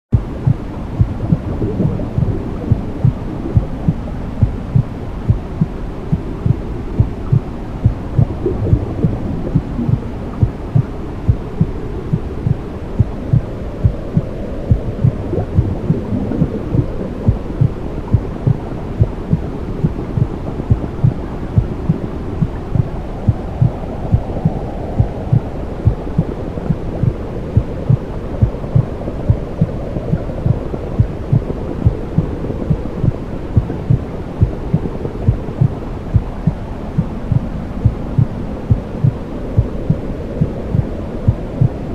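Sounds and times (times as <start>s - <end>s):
heartbeat thumping: 0.2s - 41.8s
low whooshing rumble: 0.2s - 41.9s.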